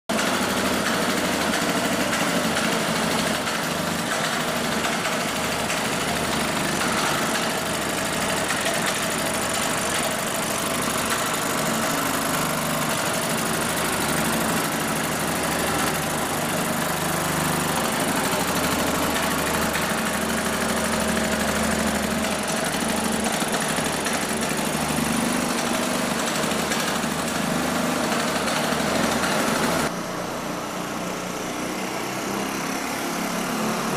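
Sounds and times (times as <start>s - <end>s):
moped engine running: 0.1s - 33.9s.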